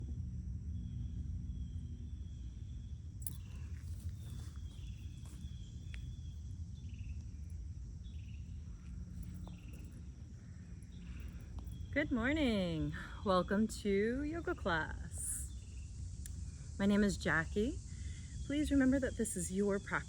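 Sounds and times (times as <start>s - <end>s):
insects trilling: 0.1s - 20.0s.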